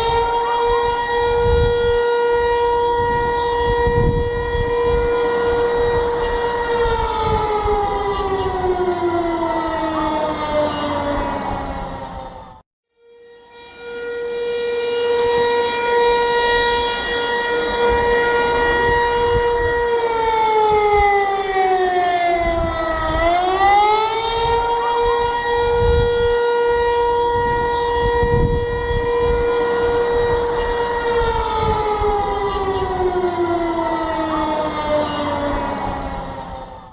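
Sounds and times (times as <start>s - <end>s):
air raid siren: 0.0s - 36.9s.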